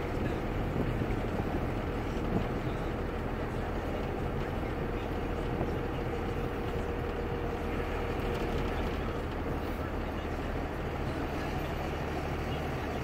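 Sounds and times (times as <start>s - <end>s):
diesel engine idling drone: 0.0s - 13.0s.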